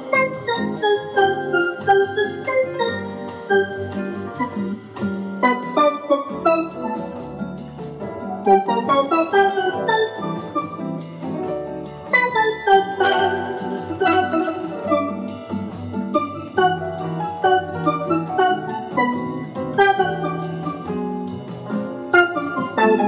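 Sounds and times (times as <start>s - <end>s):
digital wind instrument melody: 0.0s - 23.0s.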